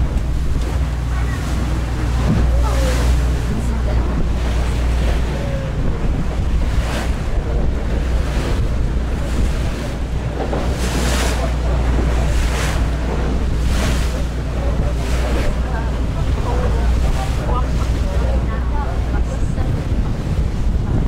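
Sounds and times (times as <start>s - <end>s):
boat engine drone: 0.0s - 21.0s
waves splashing against hull: 0.0s - 21.0s
wind buffeting microphone: 0.0s - 21.0s.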